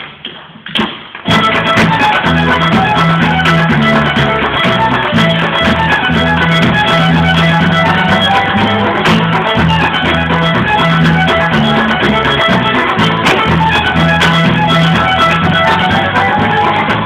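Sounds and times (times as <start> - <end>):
dance shoes tapping on stage: 0.0 - 17.0
fiddle tune: 1.3 - 17.0
low bass accompaniment: 1.3 - 17.0.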